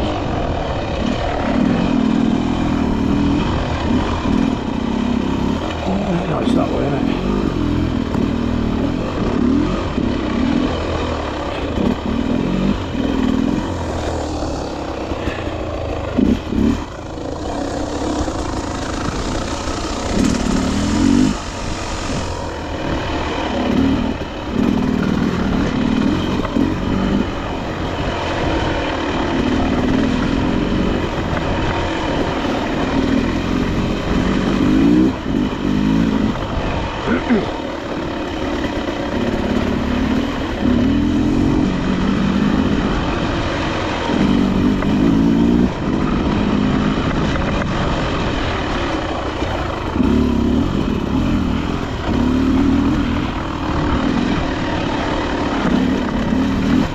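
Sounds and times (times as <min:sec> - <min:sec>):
dirt bike engine revving: 0:00.0 - 0:56.9
steady rushing noise: 0:00.0 - 0:56.9.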